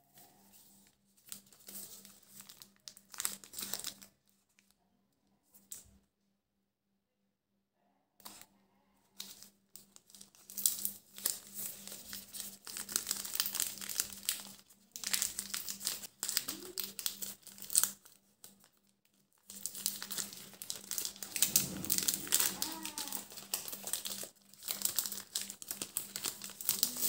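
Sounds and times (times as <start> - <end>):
plastic wrappers crinkling: 0.2 - 4.7, 9.2 - 27.0.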